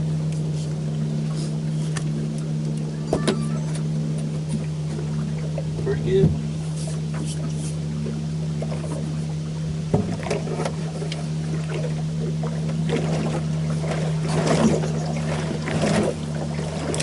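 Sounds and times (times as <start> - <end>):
low motor hum: 0.0 - 17.0
water splashing: 0.0 - 17.0.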